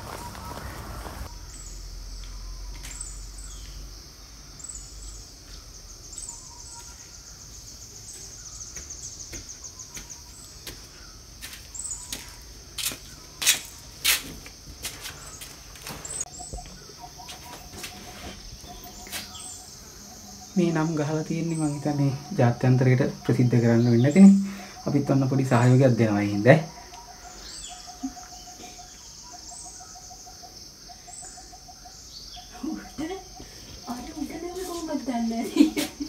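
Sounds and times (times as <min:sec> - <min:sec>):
bird chirps: 0:00.0 - 0:13.9, 0:15.1 - 0:36.0
insect buzz: 0:00.0 - 0:36.0.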